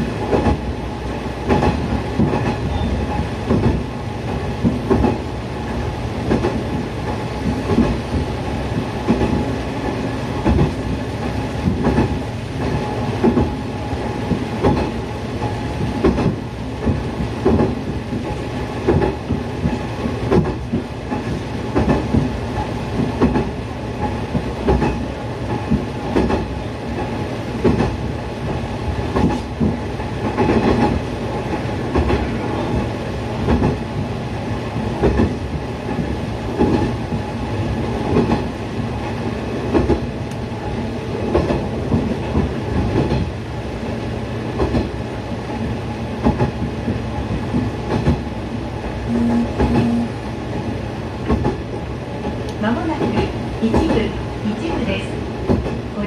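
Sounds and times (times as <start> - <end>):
diesel railcar rumble: 0.0 - 56.0.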